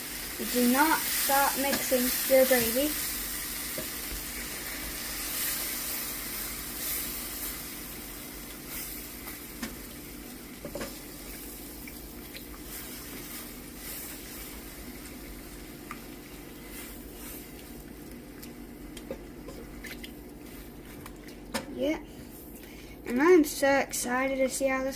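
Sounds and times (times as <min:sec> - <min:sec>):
gravy sizzling in a pan: 0:00.0 - 0:20.9.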